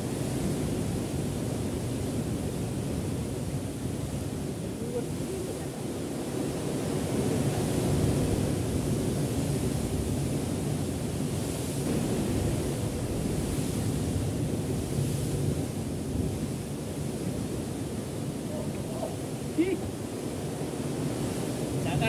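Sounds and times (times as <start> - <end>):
surf washing against rocks: 0.0 - 22.0
wind on microphone: 0.0 - 22.0.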